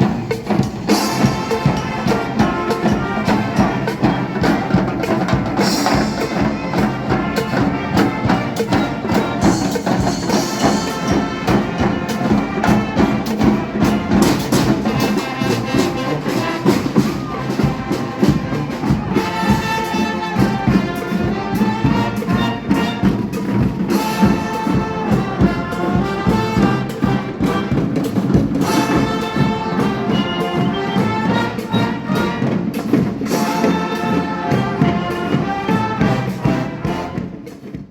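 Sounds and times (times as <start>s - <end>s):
drums keeping steady beat: 0.0s - 37.9s
trumpets and trombones: 0.0s - 37.9s.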